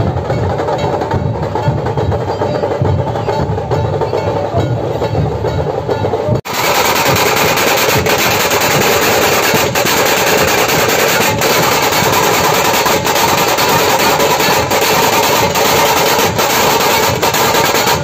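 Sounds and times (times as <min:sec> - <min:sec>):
drum ensemble playing: 0:00.0 - 0:18.0
kettle drum rapid rolls: 0:00.0 - 0:18.0.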